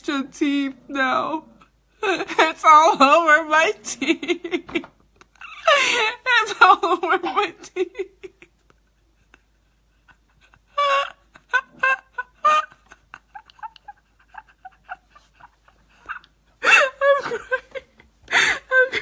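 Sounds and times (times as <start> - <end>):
woman laughing: 2.0 - 19.0.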